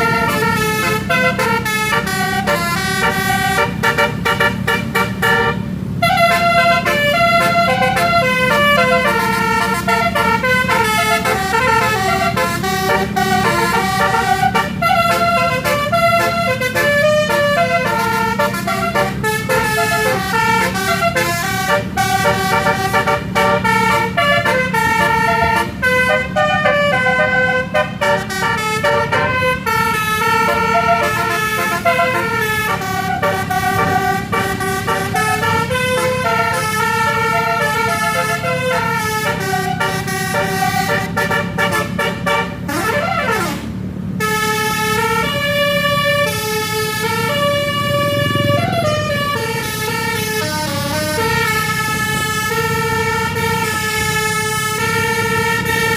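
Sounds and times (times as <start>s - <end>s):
bus engine running: 0.0s - 55.9s
musical bus horn melody: 0.0s - 55.9s.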